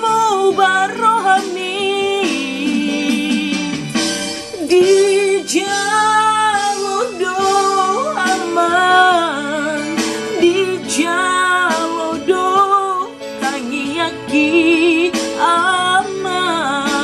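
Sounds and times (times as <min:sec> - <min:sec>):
backing music track: 0:00.0 - 0:17.0
woman singing with vibrato: 0:00.0 - 0:17.0.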